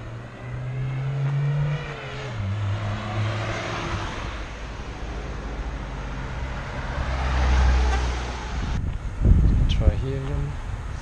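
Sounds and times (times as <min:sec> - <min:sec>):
car engine hum: 0:00.0 - 0:09.6
road noise hiss: 0:00.0 - 0:11.0.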